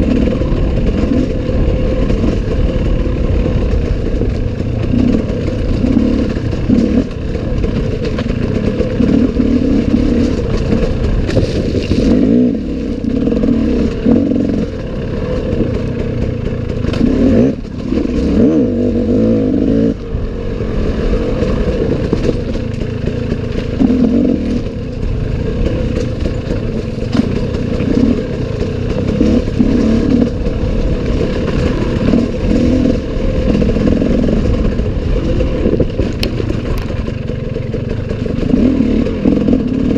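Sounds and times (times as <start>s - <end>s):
clatter: 0.0s - 39.9s
dirt bike engine revving: 0.0s - 39.9s.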